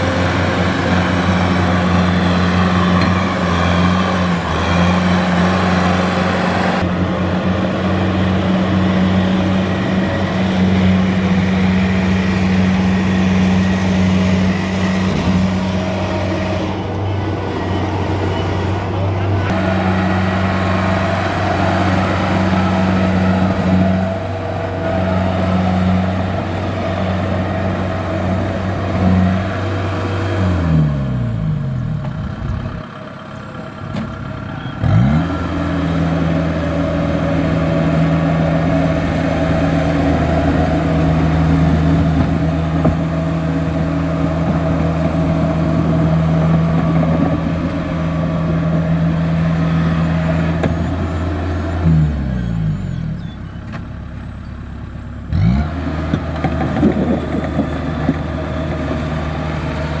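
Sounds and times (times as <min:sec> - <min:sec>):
harvester diesel engine working: 0:00.0 - 1:00.0.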